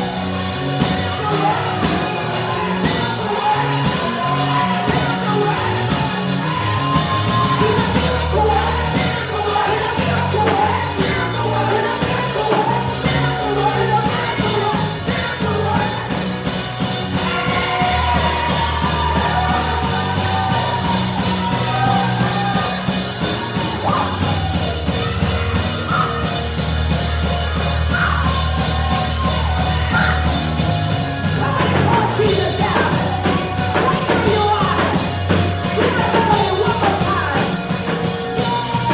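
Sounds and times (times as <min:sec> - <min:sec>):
people singing: 0:00.0 - 0:38.9
praise band playing: 0:00.0 - 0:38.9.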